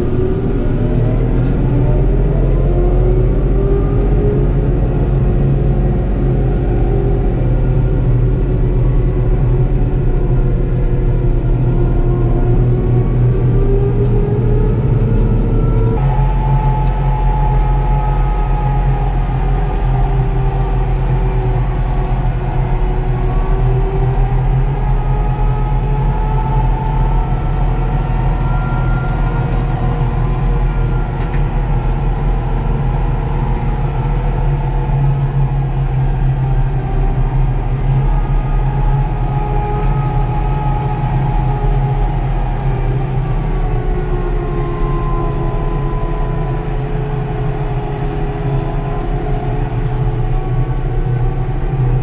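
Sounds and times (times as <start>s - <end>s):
tractor diesel engine droning: 0.0s - 52.0s
whine rising and falling: 0.0s - 52.0s.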